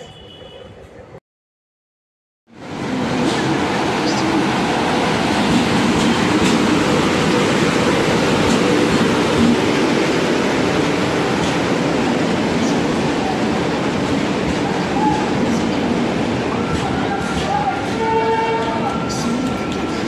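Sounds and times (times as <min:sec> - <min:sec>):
train passing: 0:02.5 - 0:20.0.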